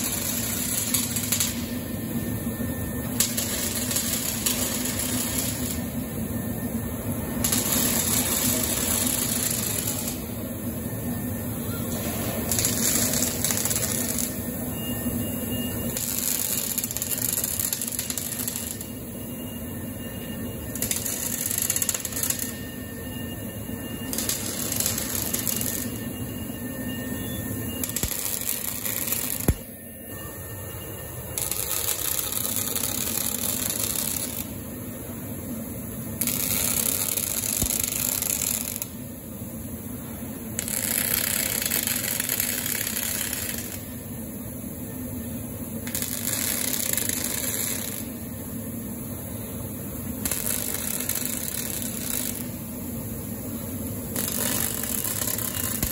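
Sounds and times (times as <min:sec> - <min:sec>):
welding arc crackling and hissing: 0:00.0 - 0:44.4, 0:45.2 - 0:55.9.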